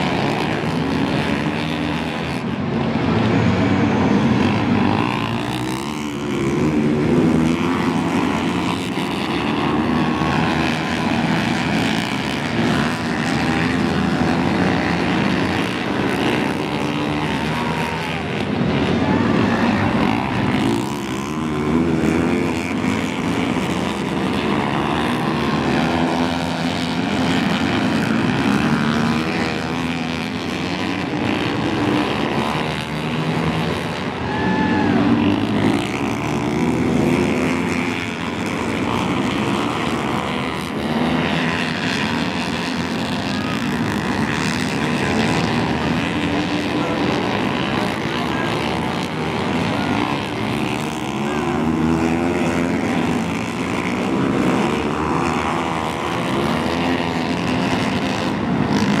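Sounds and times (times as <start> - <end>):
dirt bike engines racing: 0.0 - 59.0.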